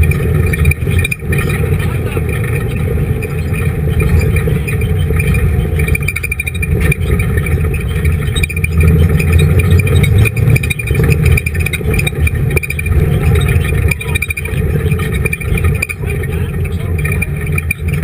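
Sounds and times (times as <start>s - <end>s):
race car engine running hard: 0.0s - 18.0s.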